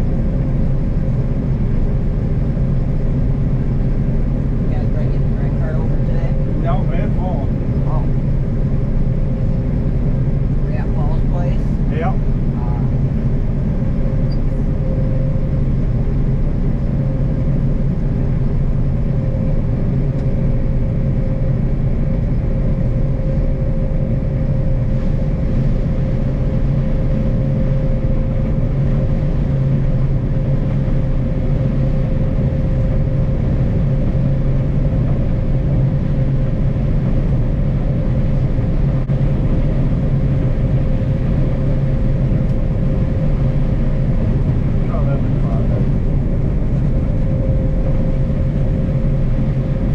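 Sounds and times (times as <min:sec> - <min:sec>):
thin steady whine: 0:02.2 - 0:49.9.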